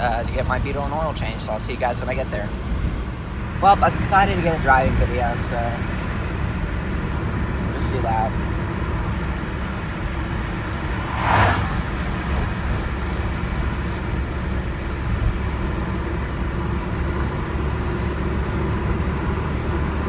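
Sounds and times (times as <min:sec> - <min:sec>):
car engine rumble from inside: 0:00.0 - 0:20.0.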